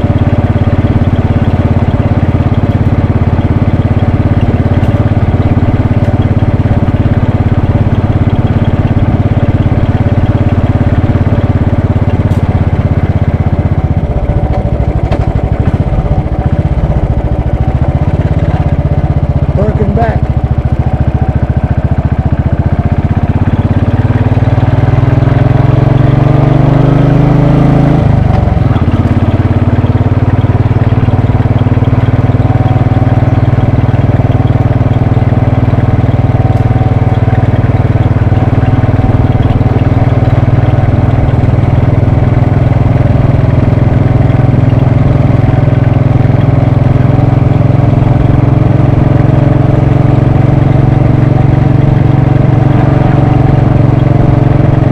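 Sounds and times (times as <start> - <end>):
motorcycle engine on the move: 0.0 - 54.9.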